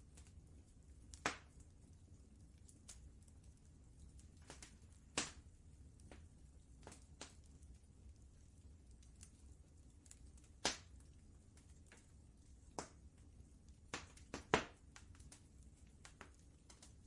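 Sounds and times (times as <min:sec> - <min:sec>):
faint low rumble: 0:00.0 - 0:17.0
wood fire crackling and popping: 0:00.0 - 0:17.0.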